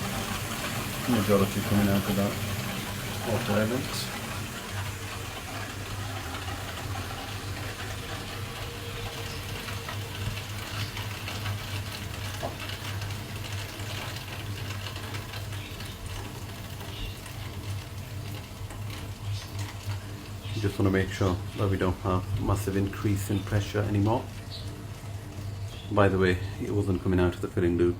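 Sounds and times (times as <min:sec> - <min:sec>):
water hissing and trickling: 0:00.0 - 0:27.8
boiler humming: 0:00.0 - 0:27.9.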